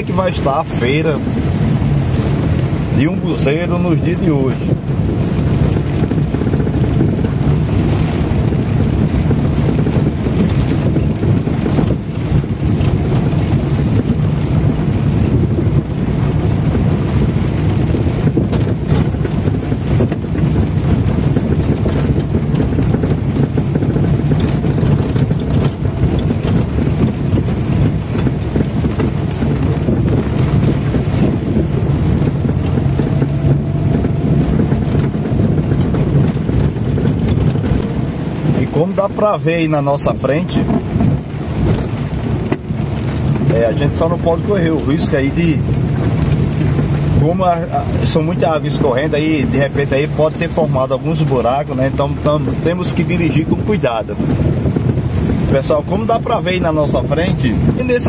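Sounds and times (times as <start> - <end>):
car engine and road noise: 0.0 - 58.0
rain on windshield: 0.0 - 58.0.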